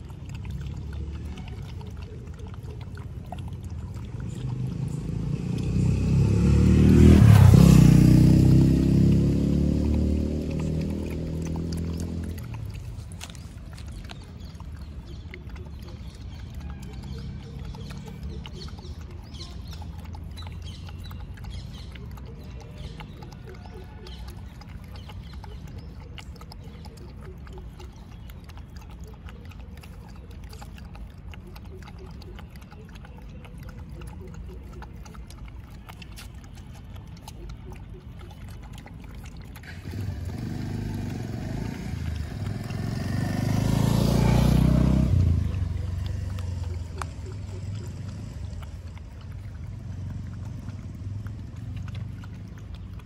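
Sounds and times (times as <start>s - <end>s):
vehicle passing: 0.0s - 33.0s, 33.6s - 53.0s
dog lapping from bowl: 0.0s - 53.0s.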